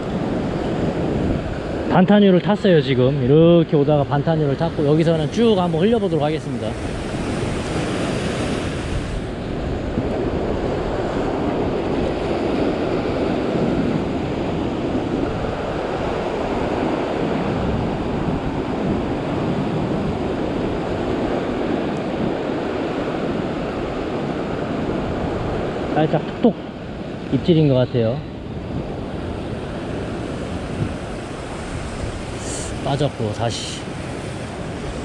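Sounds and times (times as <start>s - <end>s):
wind noise on microphone: 0.0s - 26.1s, 26.9s - 35.0s
ocean surf breaking on rocks: 0.0s - 35.0s.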